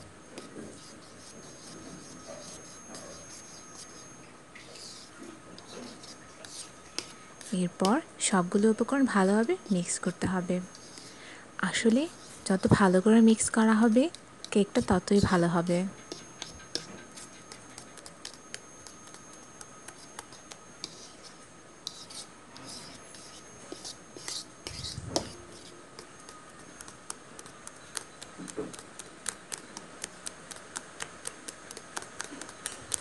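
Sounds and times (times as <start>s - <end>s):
utensil stirring batter in bowl: 0.4s - 11.1s, 11.9s - 33.0s.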